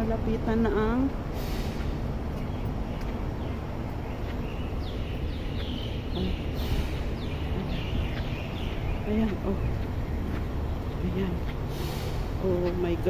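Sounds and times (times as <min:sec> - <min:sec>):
bird chirping: 0:00.0 - 0:13.0
steady low rumble: 0:00.0 - 0:13.0.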